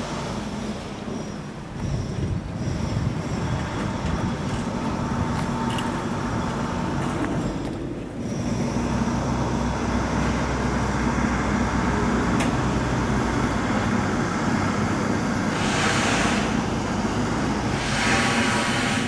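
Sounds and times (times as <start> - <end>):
traffic rumble: 0.0 - 19.0
vehicles rushing past: 0.0 - 19.0.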